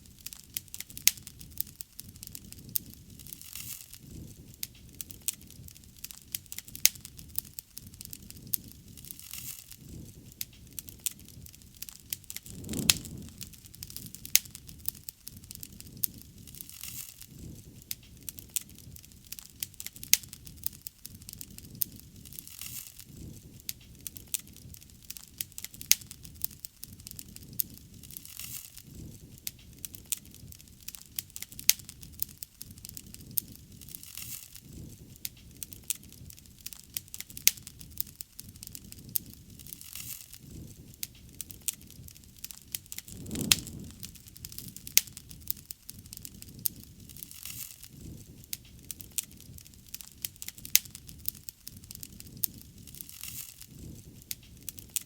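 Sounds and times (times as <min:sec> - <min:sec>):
low rumble of flames: 0:00.0 - 0:03.4, 0:04.0 - 0:28.2, 0:34.6 - 0:55.0
wood fire crackling and popping: 0:00.0 - 0:55.0.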